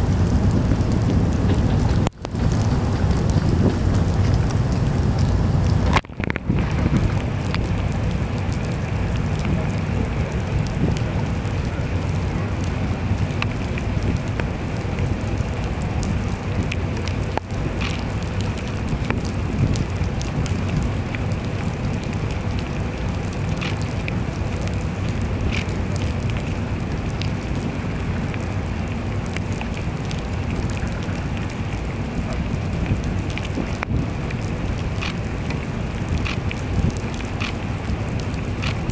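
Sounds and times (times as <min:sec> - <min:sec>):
heavy rain falling: 0:00.0 - 0:38.9
raindrops ticking nearby: 0:00.0 - 0:38.9.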